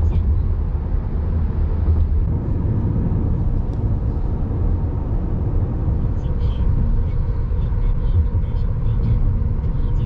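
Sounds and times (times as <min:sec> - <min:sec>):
car engine: 0:00.0 - 0:10.0
car tyre and road noise: 0:00.0 - 0:10.0.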